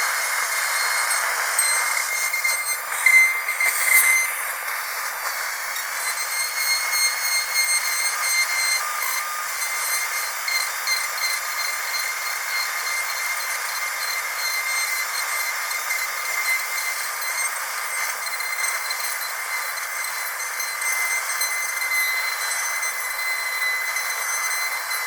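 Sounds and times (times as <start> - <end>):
dentist's drill whining: 0.0 - 25.0.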